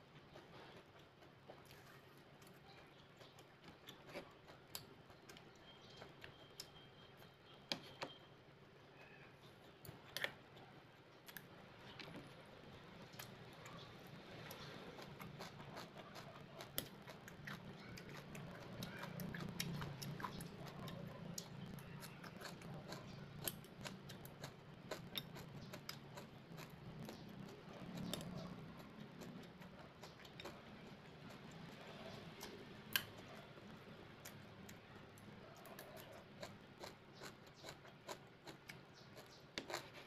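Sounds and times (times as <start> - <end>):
soft chewing: 0.0 - 40.0.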